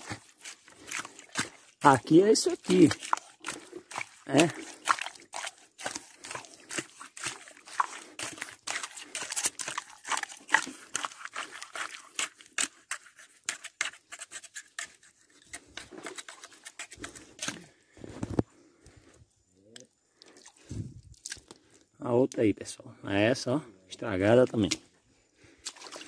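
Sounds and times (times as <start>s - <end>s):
wet mud crackling and popping: 0.0s - 19.0s, 19.7s - 22.4s.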